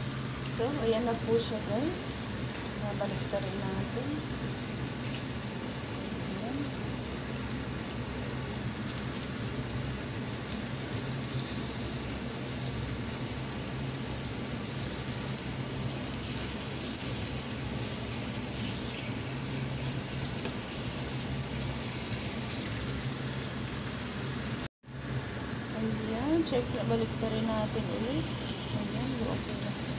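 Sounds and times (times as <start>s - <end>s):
chicken sizzling in a frying pan: 0.0s - 29.9s.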